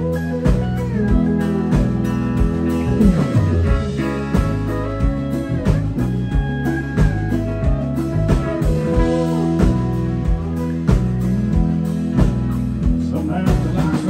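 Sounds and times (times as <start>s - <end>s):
pedal steel guitar sliding notes: 0.0s - 12.8s
country-rock band playing: 0.0s - 14.0s
steady drum beat: 0.0s - 14.0s.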